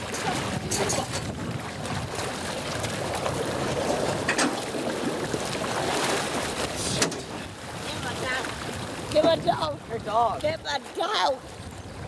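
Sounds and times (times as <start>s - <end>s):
water churning and splashing: 0.0s - 12.0s.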